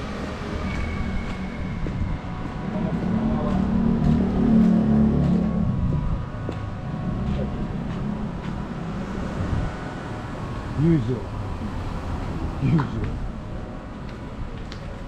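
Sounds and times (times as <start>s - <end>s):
vehicle engine passing by: 0.0s - 13.3s.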